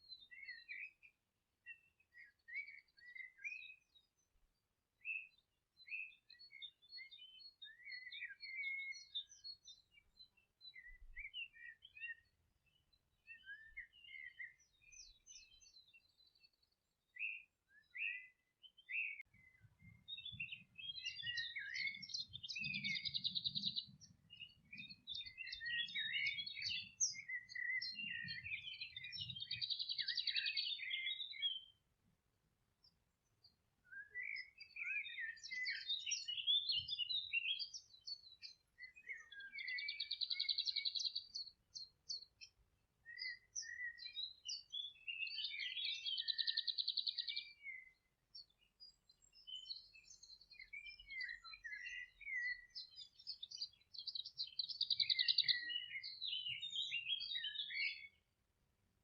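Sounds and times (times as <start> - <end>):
songbirds chirping and singing: 0.0 - 58.4.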